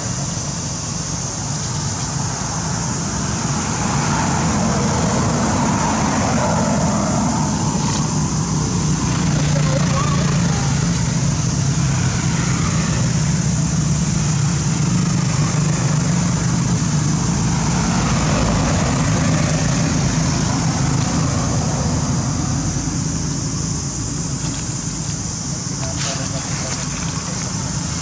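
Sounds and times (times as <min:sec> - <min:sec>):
motor engine humming: 0:04.8 - 0:28.0.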